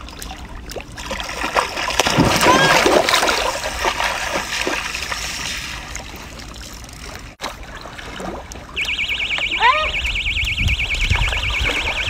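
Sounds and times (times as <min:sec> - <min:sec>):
pond water sloshing and trickling: 0:00.0 - 0:12.0.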